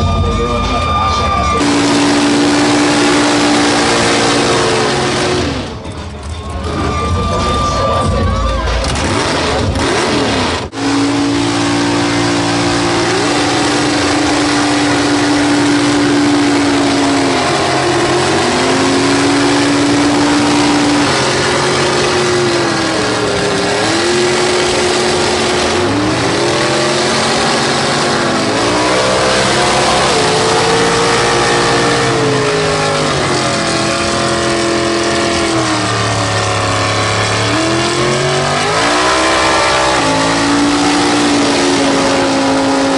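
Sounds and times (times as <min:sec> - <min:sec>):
truck engines revving high: 0:00.0 - 0:42.9.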